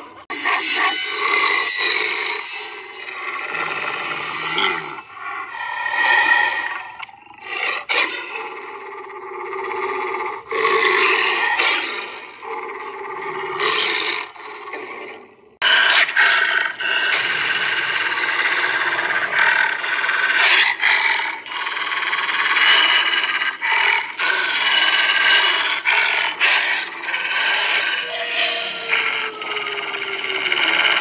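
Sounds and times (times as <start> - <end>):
prop growling and roaring: 0.0 - 31.0.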